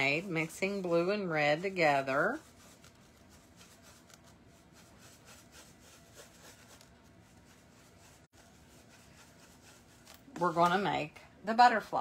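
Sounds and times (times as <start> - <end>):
paintbrush scraping on palette: 0.0 - 11.0.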